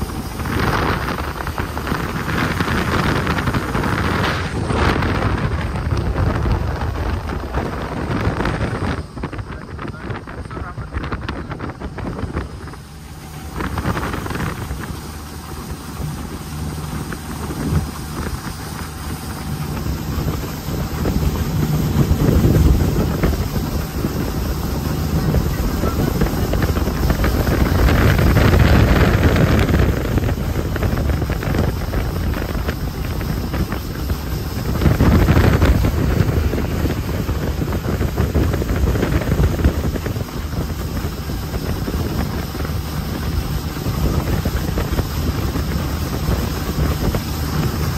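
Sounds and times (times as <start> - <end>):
boat engine running: 0.0 - 47.9
wind buffeting microphone: 0.0 - 47.9.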